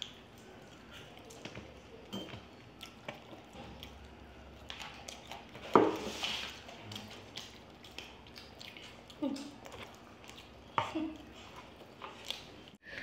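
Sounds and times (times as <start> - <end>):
wet eating sounds: 0.0 - 13.0.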